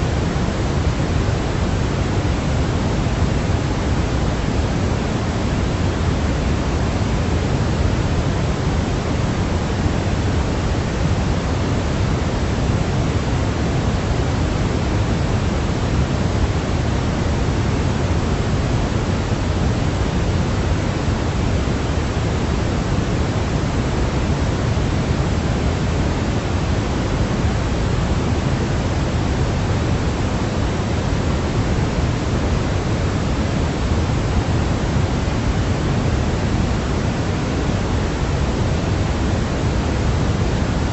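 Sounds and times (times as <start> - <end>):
steady pink noise: 0.0 - 40.9.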